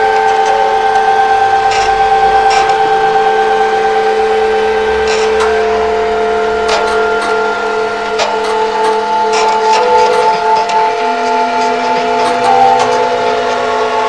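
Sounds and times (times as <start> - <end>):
clicks from moving parts: 0.0 - 3.4, 4.9 - 14.0
printer stepper motor whining: 0.0 - 14.0.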